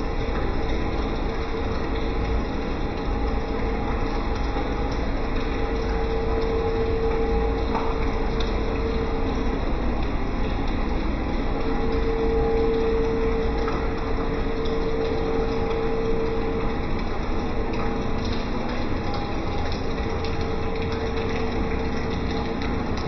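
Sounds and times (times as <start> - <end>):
pump humming with whine: 0.0 - 23.0.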